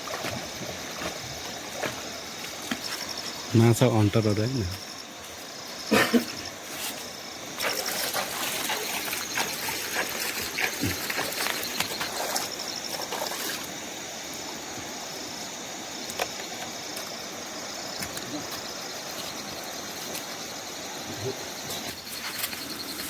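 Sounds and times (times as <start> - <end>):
crickets chirping faintly: 0.0 - 23.0
water splashing and trickling: 0.0 - 23.0.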